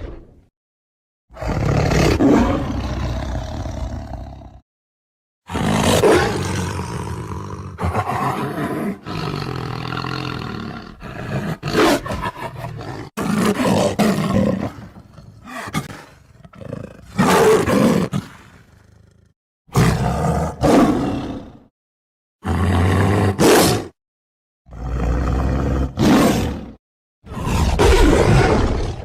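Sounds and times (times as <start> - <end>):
tiger roaring and growling: 1.3 - 4.6, 5.5 - 21.7, 22.4 - 24.0, 24.7 - 29.0.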